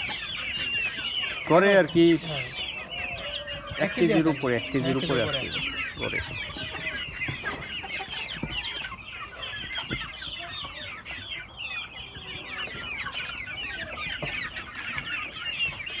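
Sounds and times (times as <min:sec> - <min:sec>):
chicks clucking and peeping: 0:00.0 - 0:16.0.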